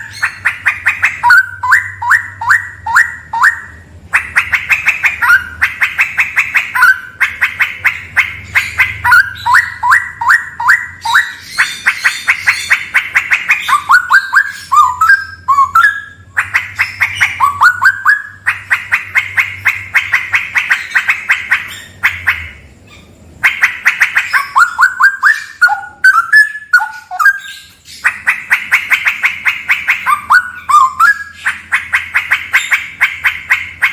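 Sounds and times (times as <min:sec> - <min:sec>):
bulbul singing: 0:00.0 - 0:33.9.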